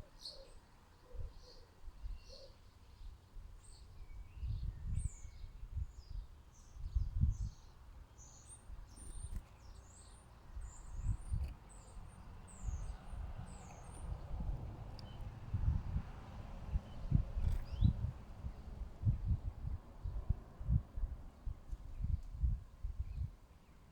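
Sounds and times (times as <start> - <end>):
small birds chirping: 0.0 - 20.8.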